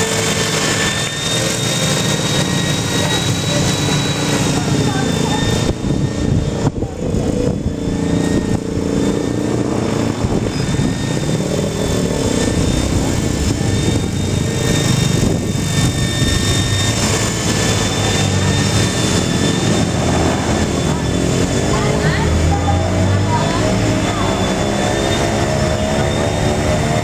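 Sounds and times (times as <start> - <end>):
electric motor whine: 0.0 - 27.0
rotor drone: 0.0 - 27.0.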